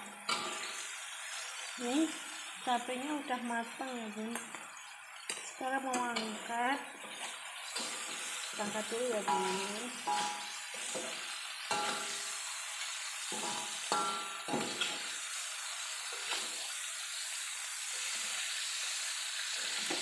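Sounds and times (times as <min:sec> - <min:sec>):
hot oil sizzling in a wok: 0:00.0 - 0:20.0.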